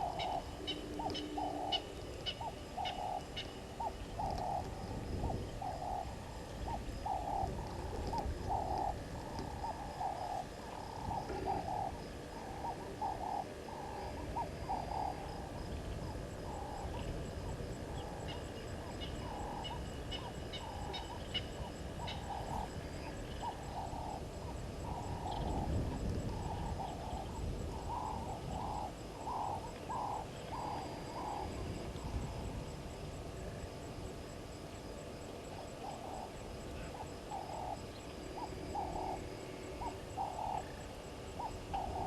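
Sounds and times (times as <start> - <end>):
low rumble of wind: 0.0 - 42.0.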